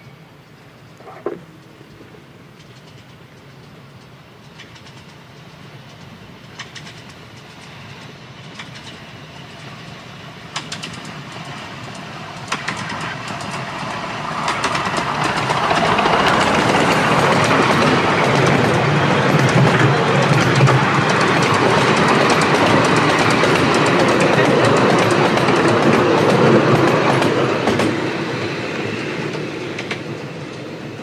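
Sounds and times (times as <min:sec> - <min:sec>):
wheels clicking over rail joints: 0:01.4 - 0:09.8, 0:10.4 - 0:28.4, 0:29.2 - 0:30.8
miniature steam train passing: 0:01.5 - 0:31.0.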